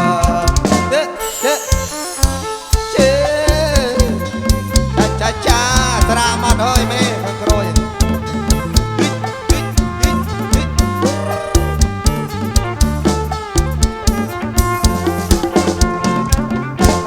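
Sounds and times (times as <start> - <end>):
live band music: 0.0 - 17.0.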